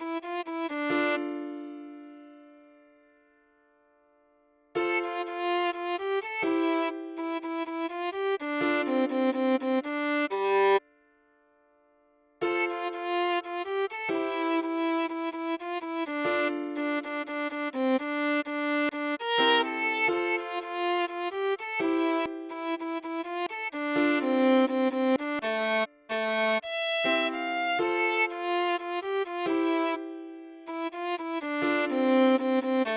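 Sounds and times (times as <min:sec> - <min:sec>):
solo viola melody: 0:00.0 - 0:02.5, 0:04.8 - 0:10.8, 0:12.4 - 0:32.9.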